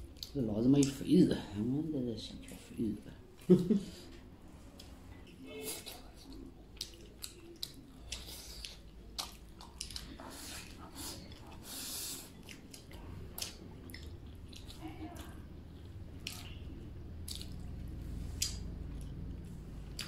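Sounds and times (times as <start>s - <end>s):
person chewing: 0.0s - 1.0s, 4.7s - 20.0s.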